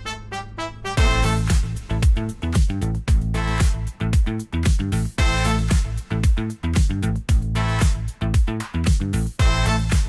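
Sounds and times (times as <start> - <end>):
disco funk music: 0.9 - 10.0.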